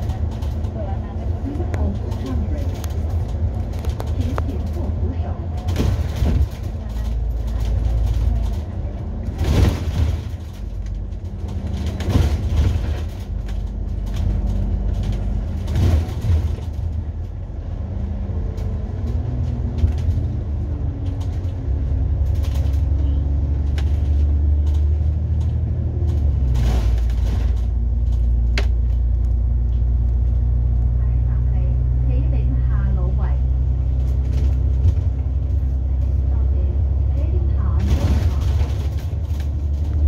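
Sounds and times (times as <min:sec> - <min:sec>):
bus engine drone: 0:00.0 - 0:40.0
road rumble: 0:00.0 - 0:40.0.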